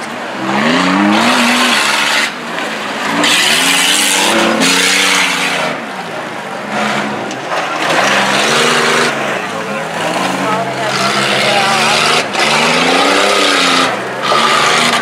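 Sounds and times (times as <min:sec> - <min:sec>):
car engine revving: 0:00.0 - 0:15.0
tires spinning in dirt: 0:00.0 - 0:15.0.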